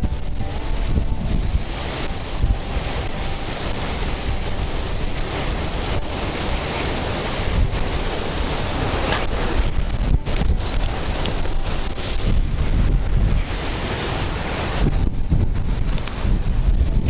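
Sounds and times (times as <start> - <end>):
wind blowing through reeds: 0.0 - 17.0
wind buffeting microphone: 0.0 - 17.0.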